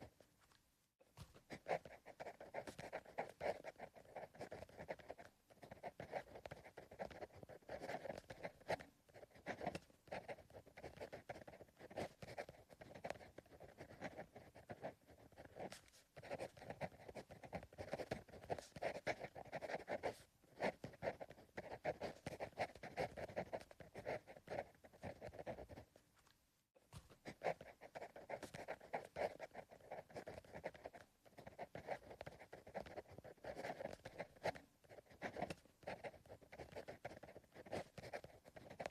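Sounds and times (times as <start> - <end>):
pencil writing on paper: 1.2 - 25.9, 26.9 - 38.9.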